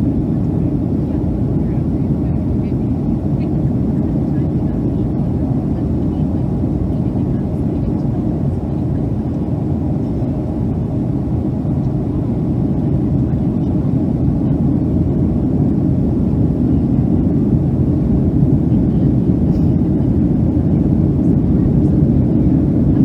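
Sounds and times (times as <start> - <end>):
engine and airflow rumble in cabin: 0.0 - 23.0.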